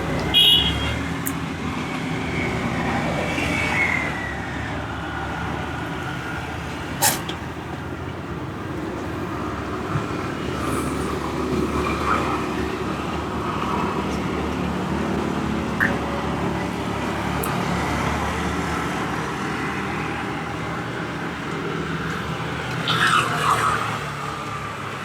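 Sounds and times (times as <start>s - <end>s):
street traffic noise: 0.0s - 25.0s.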